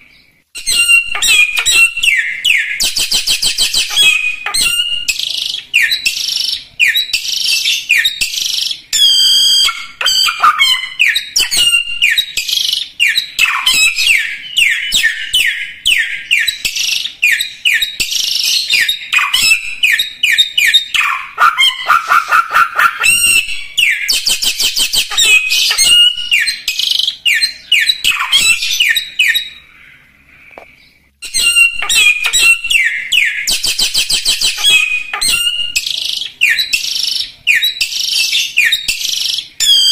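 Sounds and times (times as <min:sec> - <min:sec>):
cage bird singing whistles and trills: 0:00.0 - 0:29.8, 0:30.8 - 0:39.9.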